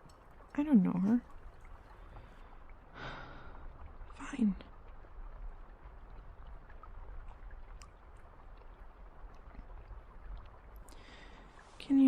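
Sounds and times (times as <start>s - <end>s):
faint raindrop ticks: 0.0s - 12.0s
soft rain hiss: 0.0s - 12.0s.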